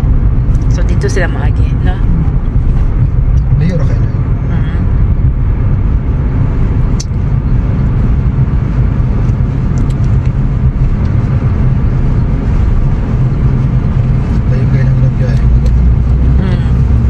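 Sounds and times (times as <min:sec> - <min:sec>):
car interior road and engine rumble: 0:00.0 - 0:17.0.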